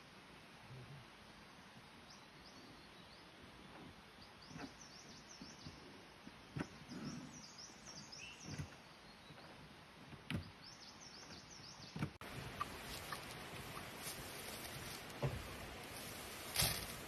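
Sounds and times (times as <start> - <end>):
small birds chirping: 1.6 - 17.0.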